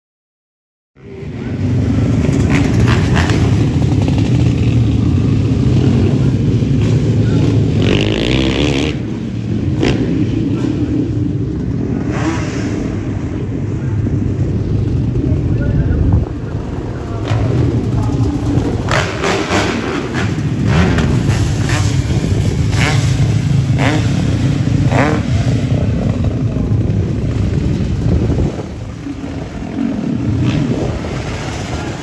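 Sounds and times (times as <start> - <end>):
motor engine rumbling: 1.0 - 32.0.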